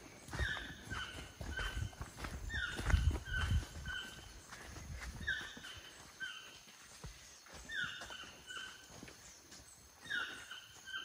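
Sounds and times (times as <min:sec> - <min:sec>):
bird calling: 0:00.0 - 0:09.4, 0:10.0 - 0:11.0.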